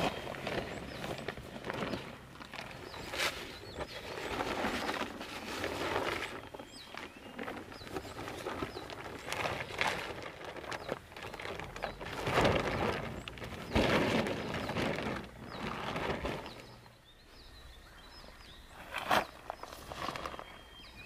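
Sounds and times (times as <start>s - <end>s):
tent fabric rustling and flapping: 0.0s - 16.9s, 18.8s - 20.6s
small birds chirping: 0.0s - 21.0s.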